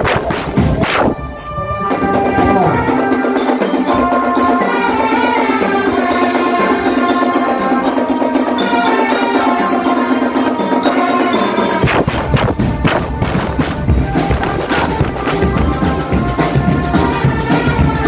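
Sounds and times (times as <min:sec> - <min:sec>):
percussion beat: 0:00.0 - 0:18.0
bell lyra melody: 0:01.6 - 0:12.8, 0:13.8 - 0:17.8.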